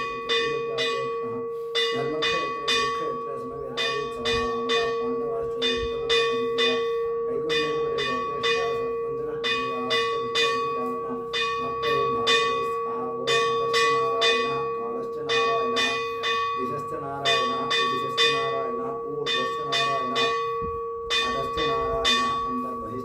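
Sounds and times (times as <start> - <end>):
temple bell ringing: 0.0 - 23.0.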